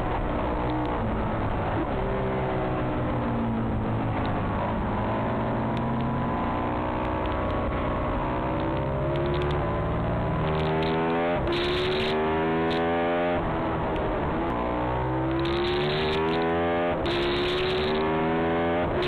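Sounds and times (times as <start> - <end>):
motorcycle engine at racing speed: 0.0 - 19.0.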